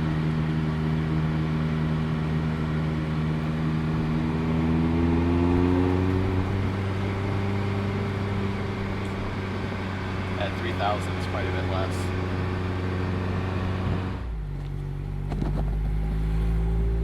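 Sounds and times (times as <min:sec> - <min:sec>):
car engine and exhaust droning: 0:00.0 - 0:17.0.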